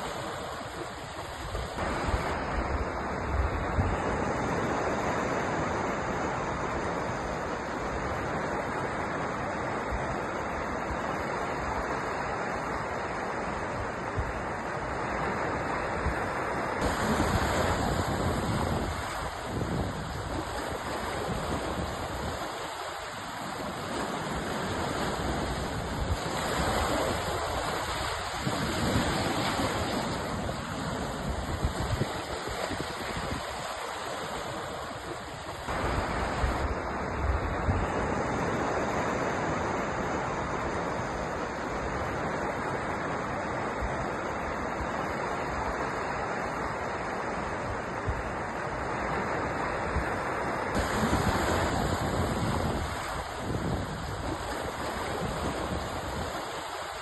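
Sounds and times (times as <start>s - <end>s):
waves breaking: 0.0s - 57.0s.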